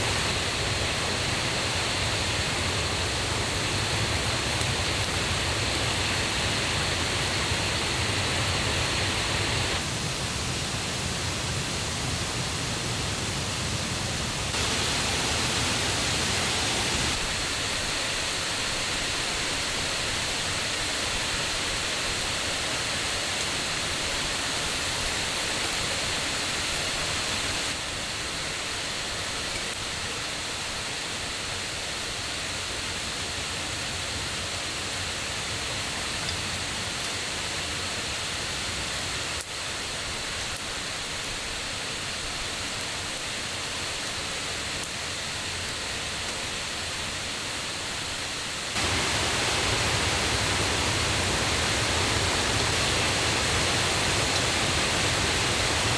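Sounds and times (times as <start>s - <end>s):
stream and waterfall rushing: 0.0s - 55.9s.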